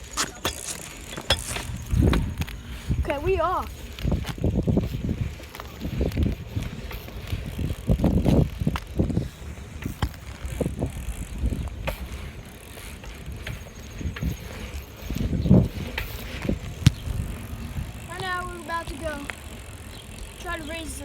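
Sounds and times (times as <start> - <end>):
bicycle clicks and rattles: 0.0 - 21.0
bicycle rumbling: 0.0 - 21.0.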